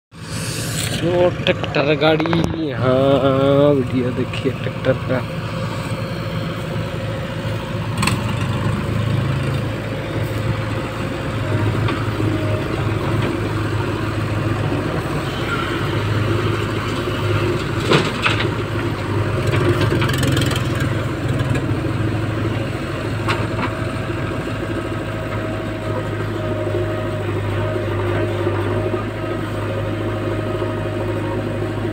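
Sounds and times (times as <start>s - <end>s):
diesel engine under load: 0.1s - 31.9s.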